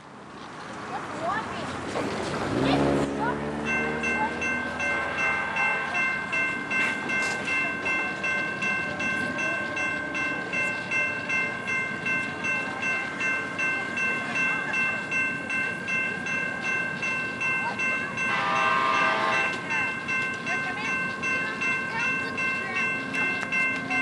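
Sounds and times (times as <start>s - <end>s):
train rumbling: 0.0s - 24.0s
crossing bell ringing: 1.2s - 24.0s.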